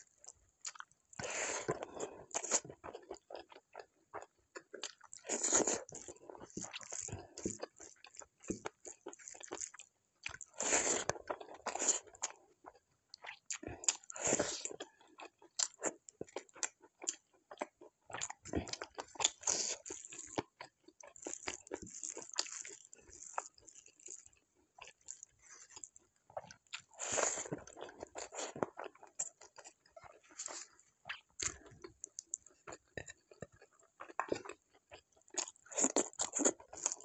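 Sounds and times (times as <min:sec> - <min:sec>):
biting and chewing crunches: 0:00.6 - 0:12.4, 0:13.2 - 0:37.0.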